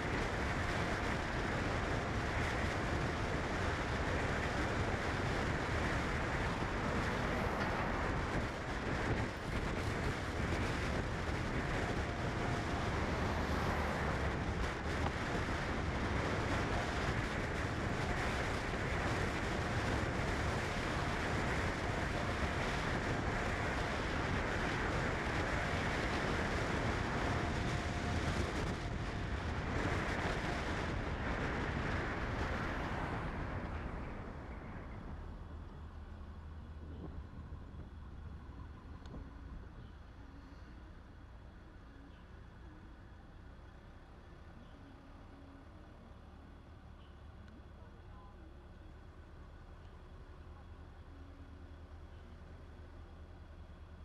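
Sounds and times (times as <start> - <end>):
vehicle road and engine noise: 0.0 - 54.0.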